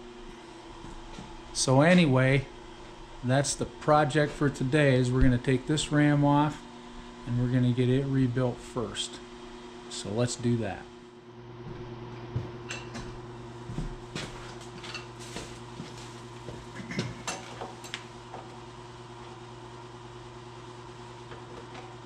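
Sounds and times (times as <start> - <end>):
steady workshop hum: 0.0 - 22.0.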